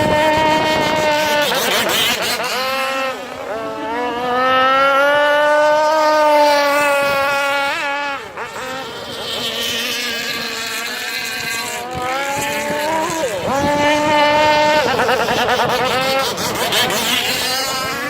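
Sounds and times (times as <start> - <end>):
two-stroke model boat engine revving: 0.0 - 18.0.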